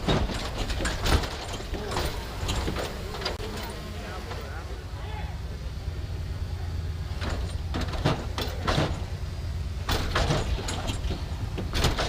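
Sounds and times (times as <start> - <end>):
hydraulics banging and hissing: 0.0 - 12.0
low engine hum: 0.0 - 12.0.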